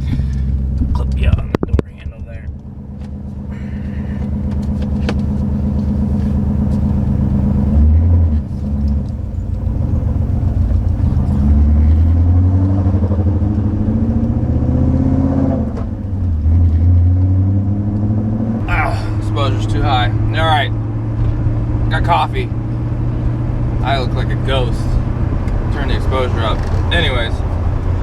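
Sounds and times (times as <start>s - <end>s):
car engine accelerating: 2.3s - 28.0s.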